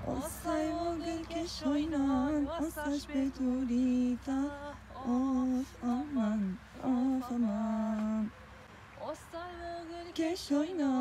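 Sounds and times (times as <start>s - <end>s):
woman singing unaccompanied: 0.0s - 8.4s, 9.0s - 11.0s.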